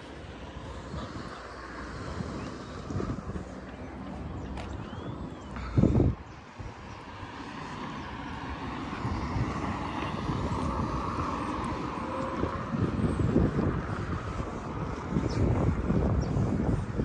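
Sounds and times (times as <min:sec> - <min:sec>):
vehicle passing by: 0:00.0 - 0:17.0.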